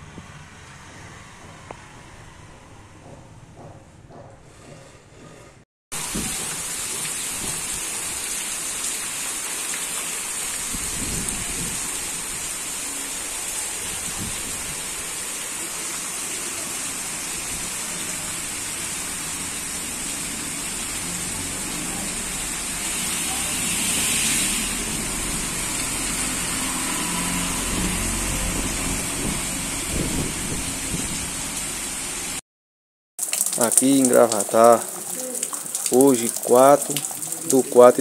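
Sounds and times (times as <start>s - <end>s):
heavy rain on rooftops: 5.9s - 32.4s, 33.2s - 38.0s.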